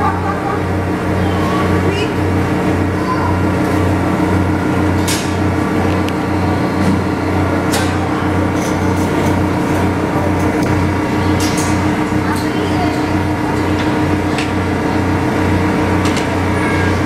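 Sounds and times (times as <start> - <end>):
pulsing low electrical hum: 0.0 - 17.0.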